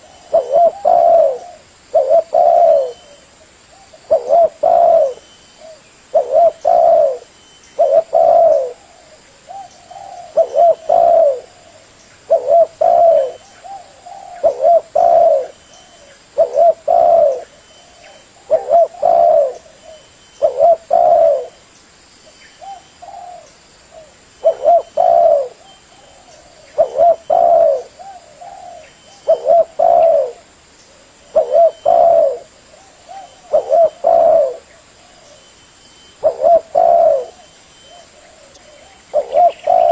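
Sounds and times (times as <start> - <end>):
dove cooing: 0.0 - 21.6, 22.6 - 39.9.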